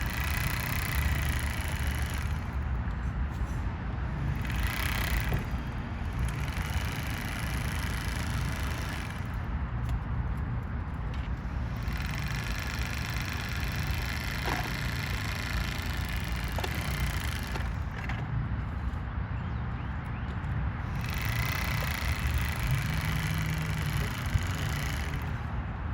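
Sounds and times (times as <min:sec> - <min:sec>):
road traffic rumble: 0:00.0 - 0:25.9.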